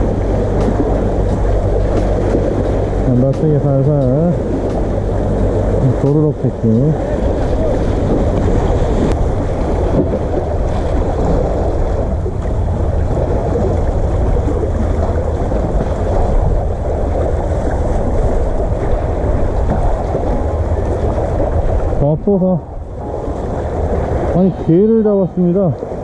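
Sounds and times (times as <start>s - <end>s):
water lapping against concrete: 0.0s - 26.0s
wind buffeting microphone: 0.0s - 26.0s.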